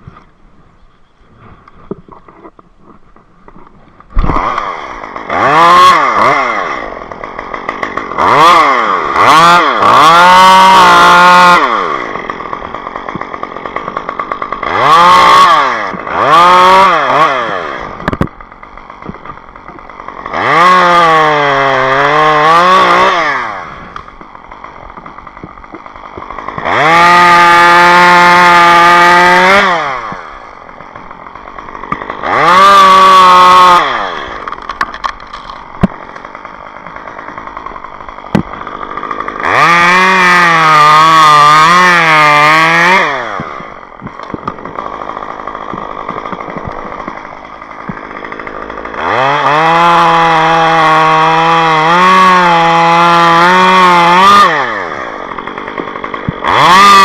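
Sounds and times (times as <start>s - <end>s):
chainsaw revving and cutting wood: 1.4s - 57.0s.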